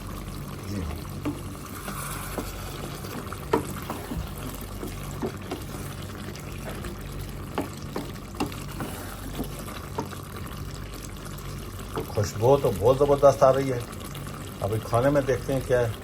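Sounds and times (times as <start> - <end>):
curry bubbling in a pot: 0.0 - 16.0.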